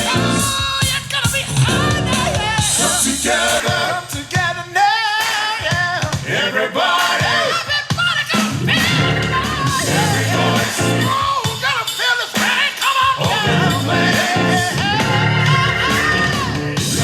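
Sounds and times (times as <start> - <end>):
pop song from smart speaker: 0.0 - 17.0.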